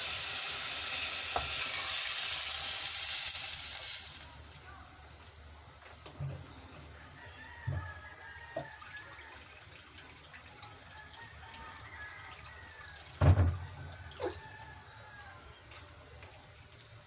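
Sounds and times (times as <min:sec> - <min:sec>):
water dripping and bubbling in pot: 0:00.0 - 0:15.3.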